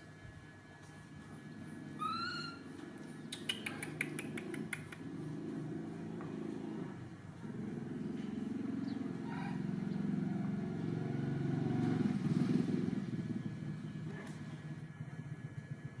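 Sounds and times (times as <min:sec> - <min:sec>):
low engine-like drone: 0:00.0 - 0:16.0.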